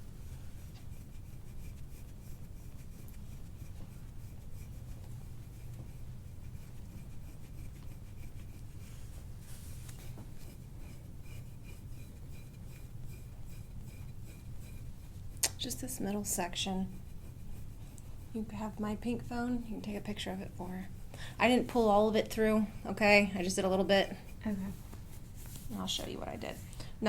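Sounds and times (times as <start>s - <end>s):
rubbing and light scratching: 0.0s - 26.9s
steady low hum: 0.0s - 27.0s.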